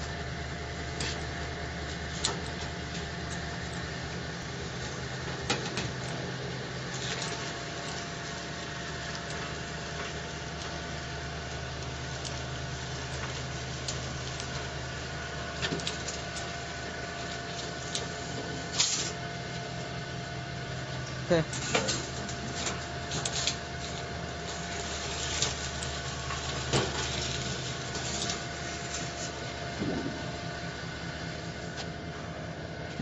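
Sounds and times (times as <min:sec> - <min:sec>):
roll-forming machine humming: 0:00.0 - 0:33.0.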